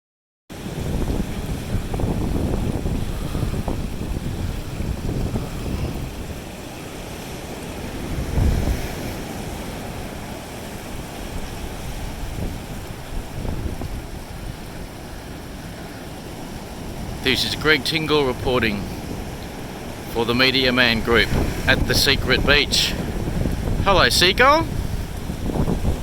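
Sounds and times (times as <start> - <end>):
wind buffeting microphone: 0.5 - 17.3, 18.2 - 20.1, 20.9 - 26.0
surf washing onto beach: 0.5 - 26.0.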